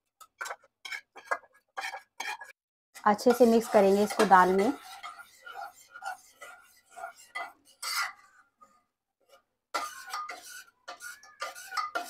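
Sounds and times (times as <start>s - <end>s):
metal spoon scraping a pot: 0.1s - 12.0s.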